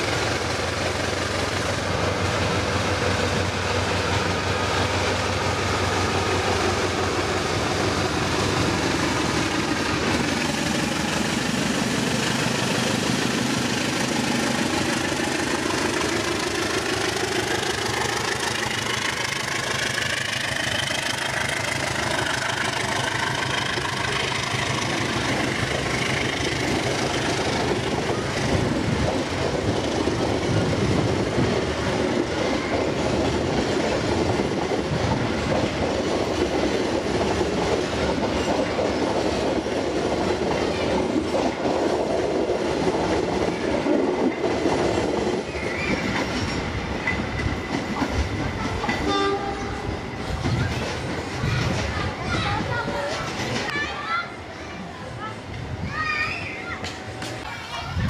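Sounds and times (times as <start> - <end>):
train wheels clacking over rail joints: 0.0 - 54.2
locomotive engine: 0.0 - 55.6.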